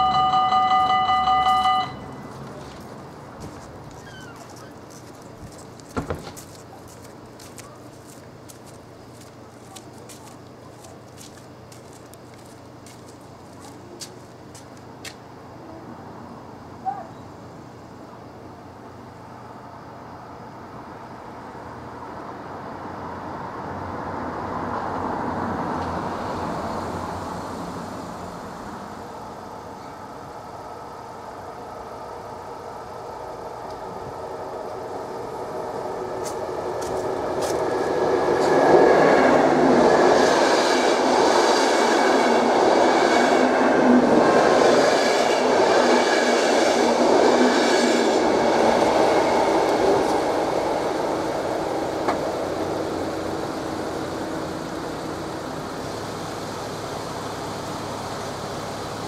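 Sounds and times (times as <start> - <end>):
train wheels on rails: 0.0 - 15.3, 24.6 - 59.0.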